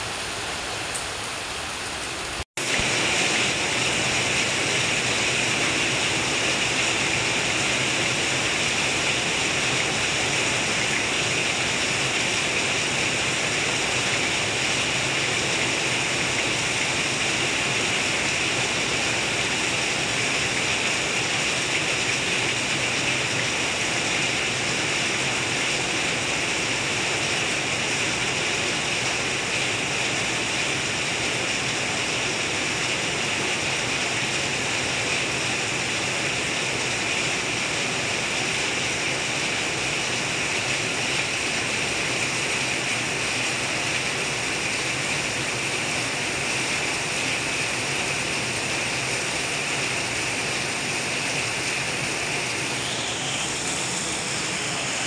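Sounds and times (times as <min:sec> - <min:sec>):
heavy rain: 0:00.0 - 0:55.0
runoff pouring and splashing: 0:02.6 - 0:55.0.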